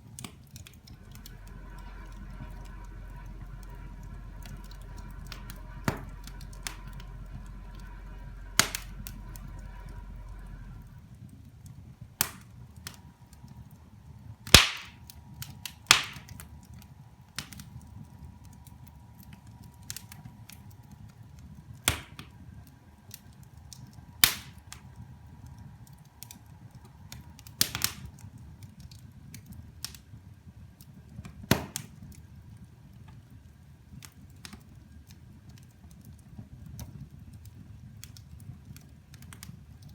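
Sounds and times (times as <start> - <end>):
low background hum: 0.0 - 39.9
wood fire crackling: 0.0 - 39.9.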